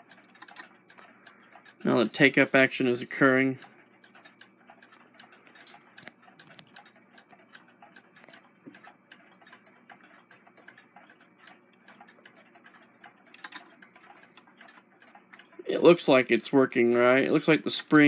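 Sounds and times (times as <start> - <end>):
sewing machine mechanism clicking: 0.0 - 15.9.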